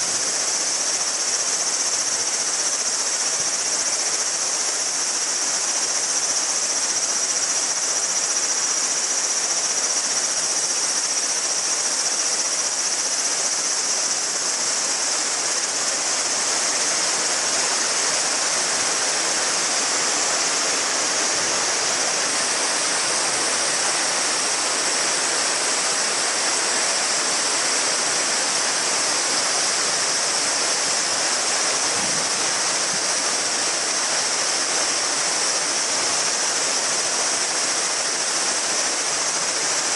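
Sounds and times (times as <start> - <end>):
cicadas buzzing: 0.0 - 39.9
river babbling over stones: 0.0 - 39.9.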